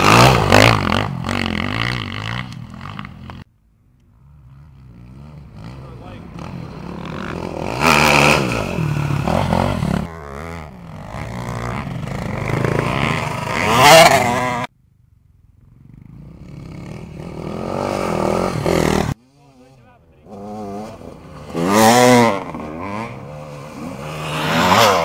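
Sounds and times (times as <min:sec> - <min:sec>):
motorcycle engine revving: 0:00.0 - 0:03.5, 0:04.1 - 0:14.7, 0:15.4 - 0:25.0
dirt bike engine approaching: 0:00.0 - 0:25.0.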